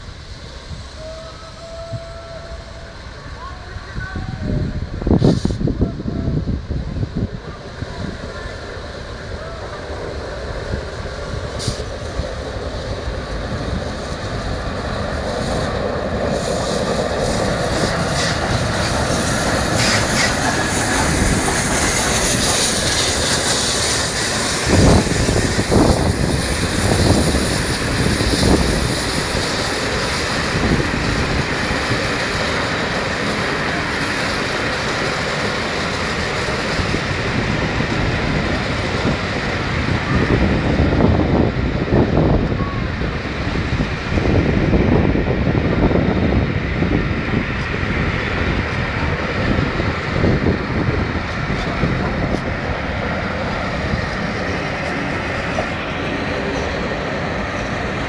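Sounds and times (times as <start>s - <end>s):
steam train rumbling past: 0.0s - 58.0s.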